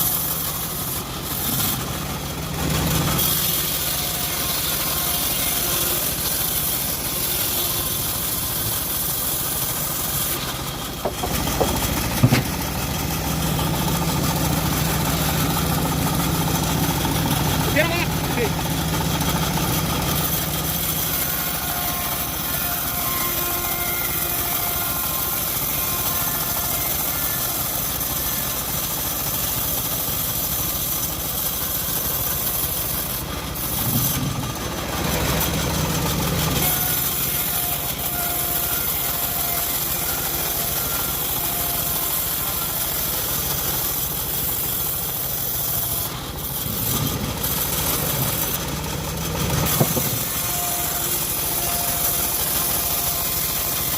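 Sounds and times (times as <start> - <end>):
bandsaw sawing log: 0.0 - 53.9.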